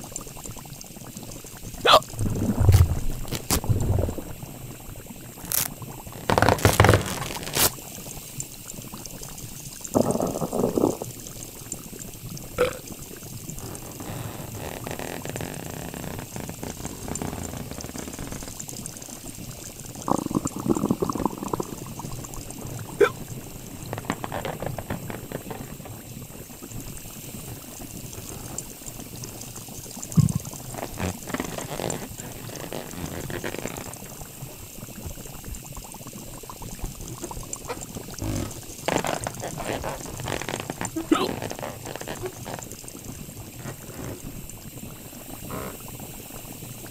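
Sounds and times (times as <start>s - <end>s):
carbonated liquid bubbling: 0.0s - 46.9s.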